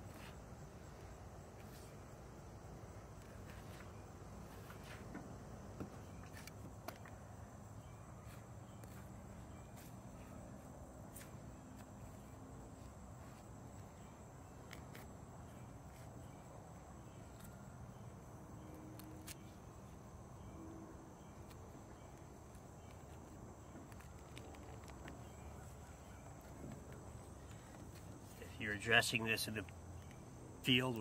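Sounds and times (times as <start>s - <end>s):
insect drone: 0.0s - 31.0s.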